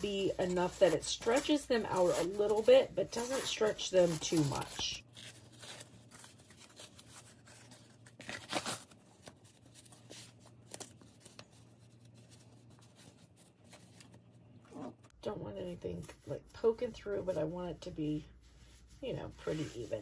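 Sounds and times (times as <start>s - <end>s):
paper and fabric rustling: 0.0s - 20.0s.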